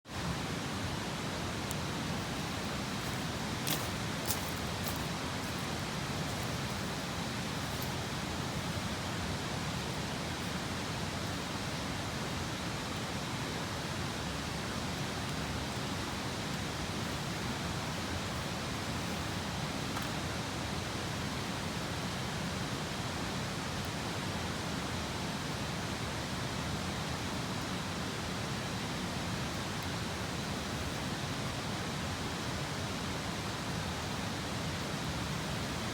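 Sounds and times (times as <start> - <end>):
river water rushing: 0.1 - 35.9.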